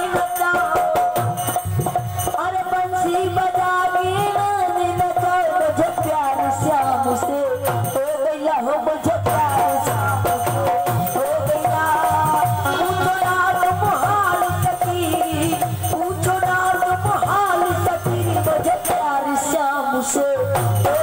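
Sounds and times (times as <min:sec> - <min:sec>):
hand drum beat: 0:00.0 - 0:19.2
harmonium melody: 0:00.0 - 0:21.0
jingling percussion: 0:00.0 - 0:21.0.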